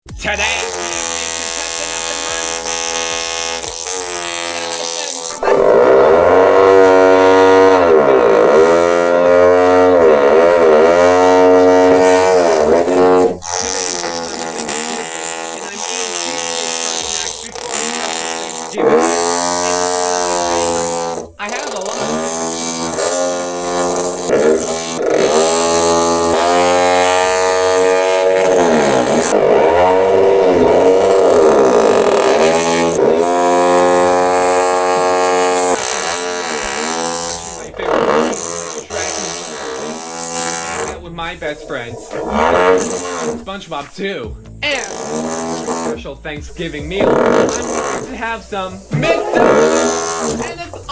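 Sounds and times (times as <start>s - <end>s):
distorted buzzing voice: 0.0s - 50.9s.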